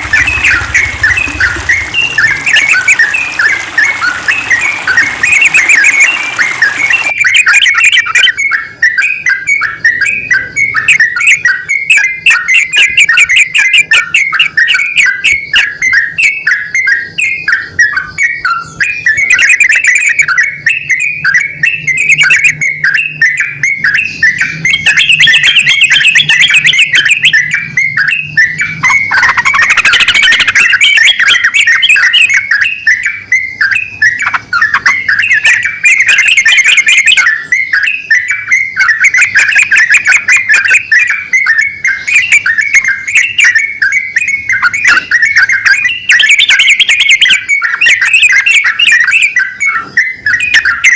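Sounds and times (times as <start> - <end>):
bird singing chattering song: 0.0 - 50.9.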